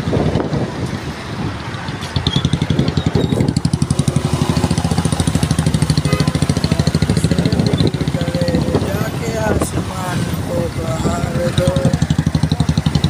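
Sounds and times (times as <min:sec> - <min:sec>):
wind and traffic noise: 0:00.0 - 0:13.0
motorcycle engine running: 0:01.8 - 0:13.0.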